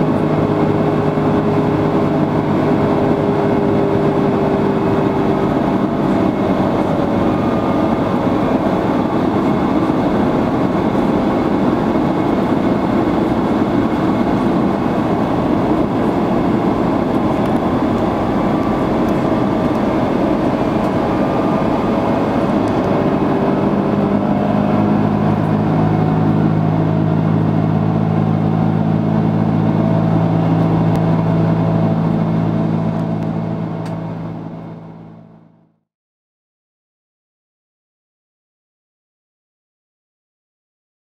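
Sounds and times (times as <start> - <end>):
airflow and jet engine rush: 0.0 - 35.8
low engine hum: 0.0 - 35.9.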